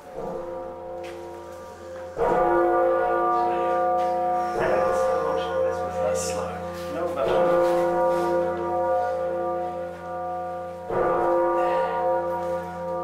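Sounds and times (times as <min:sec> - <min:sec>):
deep bell hum: 0:00.0 - 0:13.0
large bell striking: 0:00.0 - 0:13.0.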